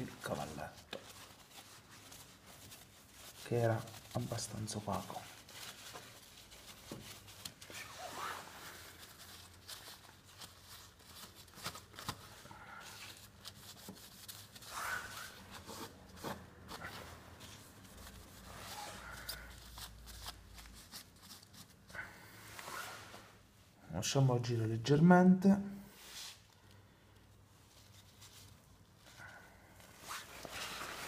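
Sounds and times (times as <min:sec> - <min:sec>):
paper towel rustling and scratching: 0:00.0 - 0:23.6, 0:25.9 - 0:31.0.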